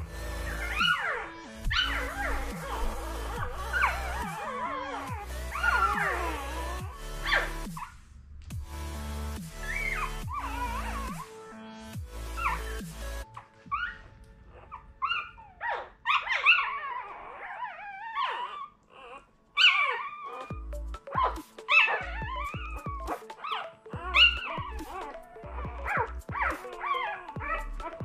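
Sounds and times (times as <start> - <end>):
puppies squealing and whimpering: 0.0 - 7.9, 9.6 - 11.5, 12.2 - 28.0.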